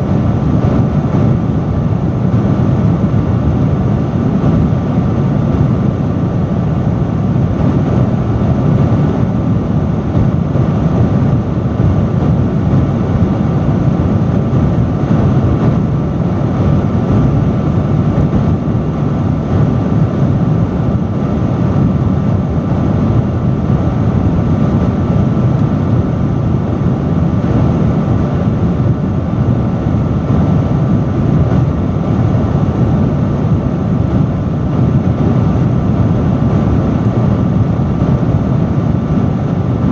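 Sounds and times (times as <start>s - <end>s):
faint steady hum: 0.0s - 39.9s
industrial fan rushing air: 0.0s - 39.9s.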